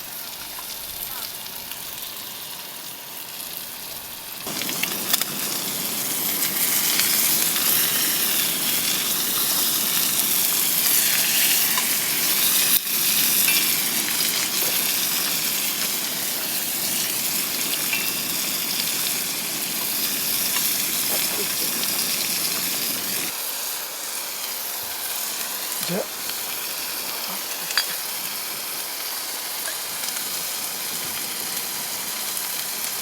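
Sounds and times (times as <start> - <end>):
food sizzling in a pan: 0.0 - 33.0.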